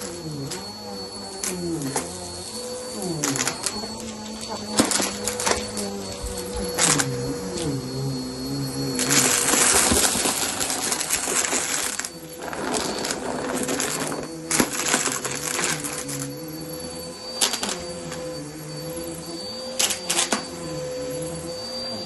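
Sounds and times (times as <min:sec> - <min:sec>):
vacuum cleaner running over rug: 0:00.0 - 0:22.0.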